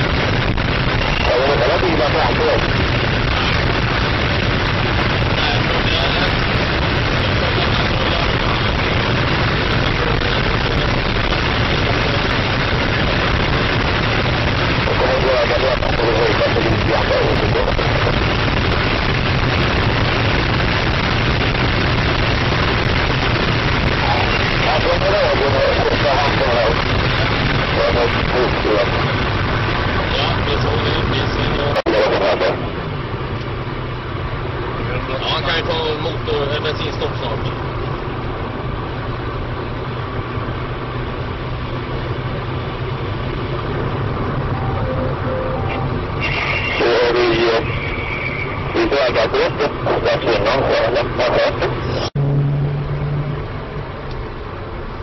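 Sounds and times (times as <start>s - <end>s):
wind and road noise in car: 0.0s - 55.0s.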